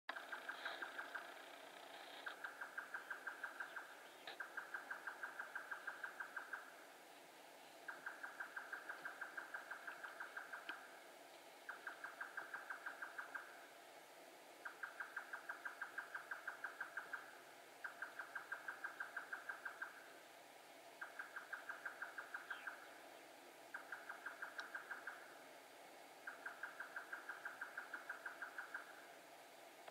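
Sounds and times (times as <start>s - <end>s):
nightjar singing rapid repeated notes: 0.1s - 11.0s, 11.6s - 20.2s, 20.9s - 25.5s, 26.2s - 29.2s.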